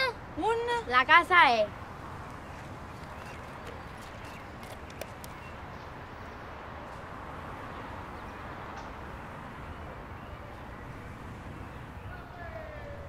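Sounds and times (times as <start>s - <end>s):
city background hiss and rumble: 0.0s - 13.0s.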